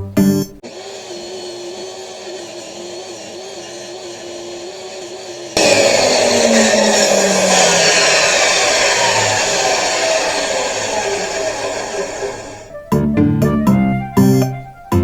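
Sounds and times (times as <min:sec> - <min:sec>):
saw blade cutting wood: 0:00.6 - 0:12.8
power saw running: 0:00.6 - 0:13.8.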